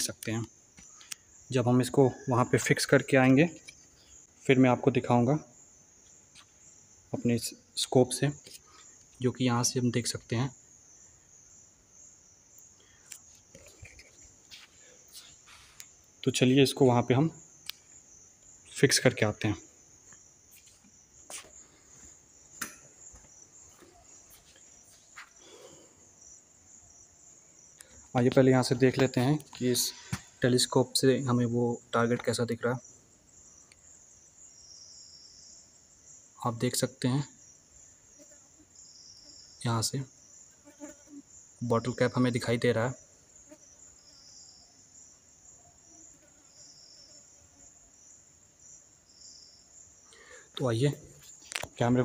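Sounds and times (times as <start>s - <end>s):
insects chirring: 0.0s - 52.0s.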